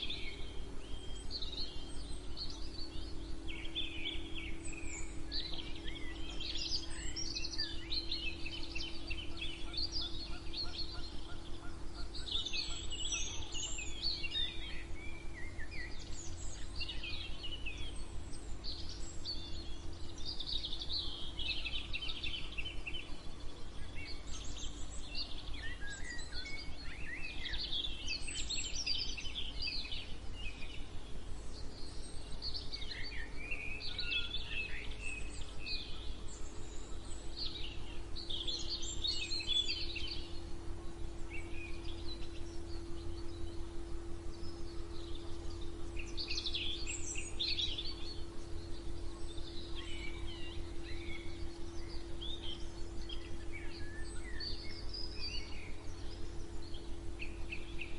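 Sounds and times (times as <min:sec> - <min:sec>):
low hum and rumble: 0:00.0 - 0:57.9
songbirds chirping and singing: 0:00.0 - 0:57.9.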